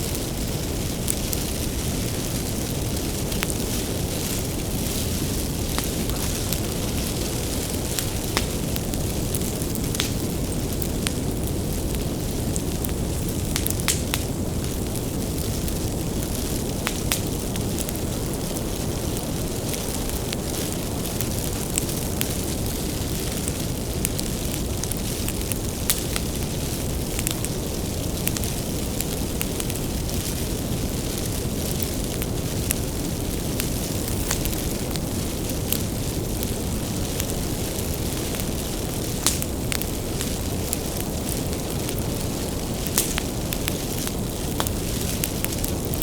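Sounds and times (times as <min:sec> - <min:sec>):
bonfire flames rumbling: 0:00.0 - 0:46.0
burning wood crackling and popping: 0:00.0 - 0:46.0.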